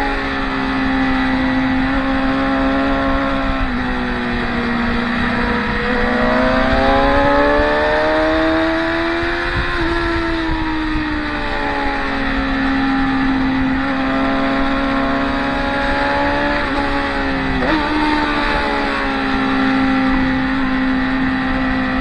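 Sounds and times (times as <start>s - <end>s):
motorcycle engines: 0.0s - 22.0s.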